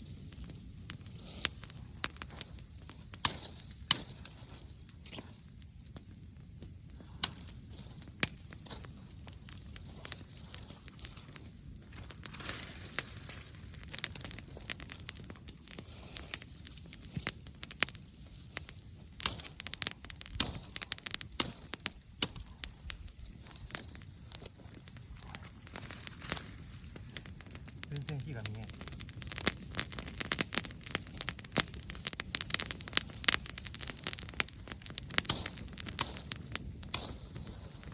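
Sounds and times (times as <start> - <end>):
bonfire crackling: 0.0 - 37.9.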